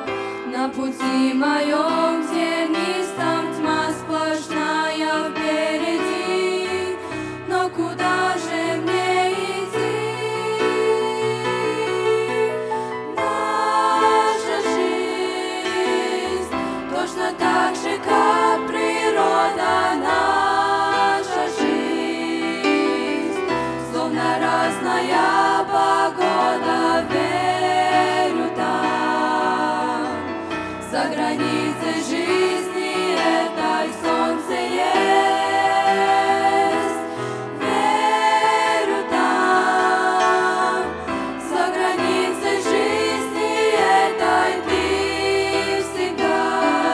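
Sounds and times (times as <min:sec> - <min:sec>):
girls singing worship song: 0:00.0 - 0:46.9.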